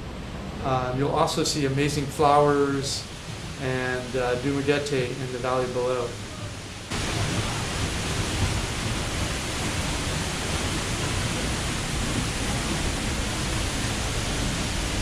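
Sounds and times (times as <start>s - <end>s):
waterfall rushing: 1.4s - 15.0s.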